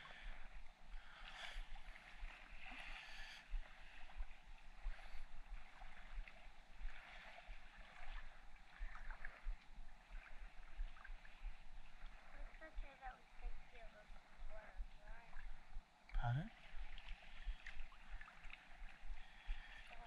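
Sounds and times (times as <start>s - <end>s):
seawater sloshing and splashing: 0.0s - 15.8s, 16.4s - 20.0s.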